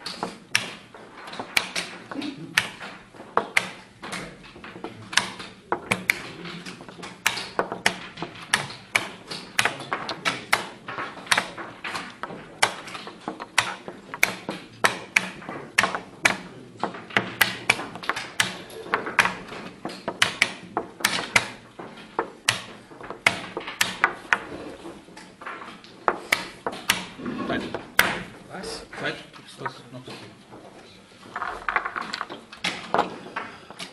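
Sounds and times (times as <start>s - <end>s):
chess pieces clacking on board: 0.0s - 33.9s.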